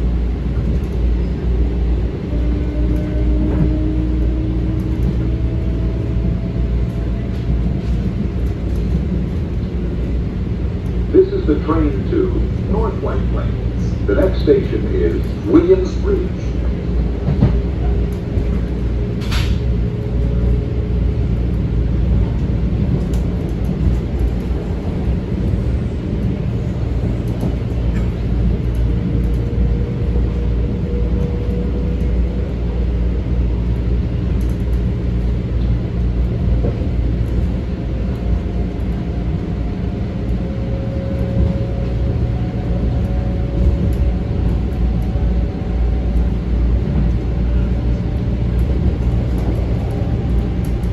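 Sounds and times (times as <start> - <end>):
train wheels rumbling on track: 0.0 - 50.9.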